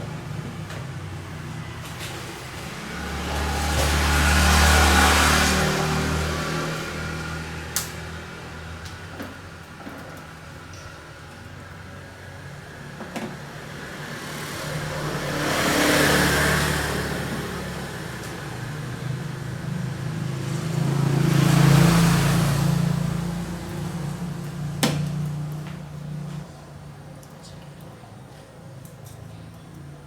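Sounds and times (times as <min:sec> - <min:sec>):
road vehicles passing by: 0:00.0 - 0:30.0.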